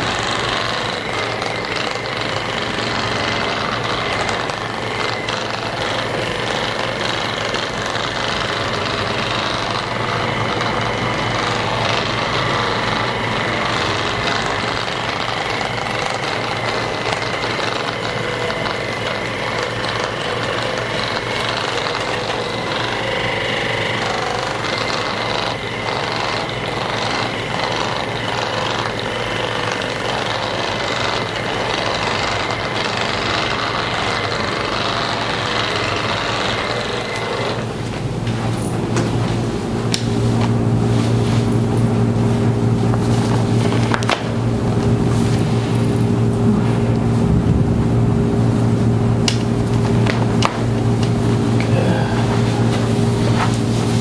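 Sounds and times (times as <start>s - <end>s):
massage gun buzzing: 0.0s - 54.0s.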